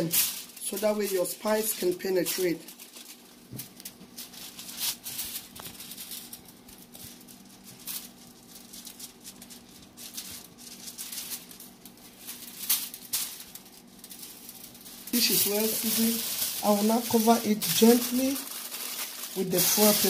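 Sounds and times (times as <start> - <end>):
aluminium foil crinkling: 0.0 - 20.0
faint steady hum: 0.0 - 20.0.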